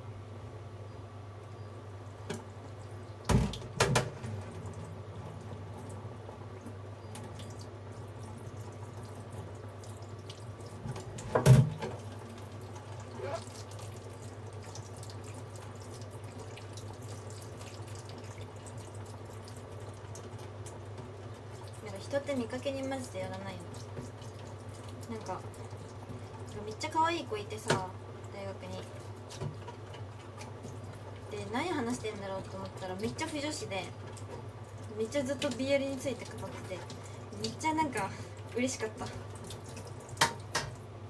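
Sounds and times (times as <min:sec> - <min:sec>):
water bubbling in a pot: 0:00.0 - 0:41.0.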